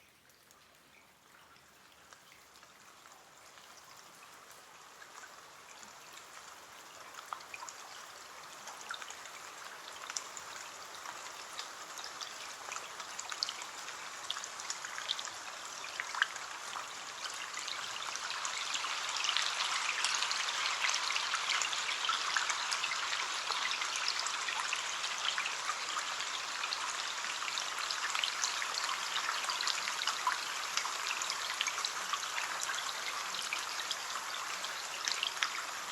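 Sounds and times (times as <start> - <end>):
rain pattering on a window: 0.0 - 35.9.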